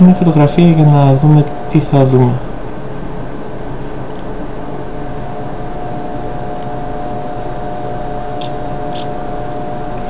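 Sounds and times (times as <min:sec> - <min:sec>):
electrical hum with hiss: 0:00.0 - 0:10.0.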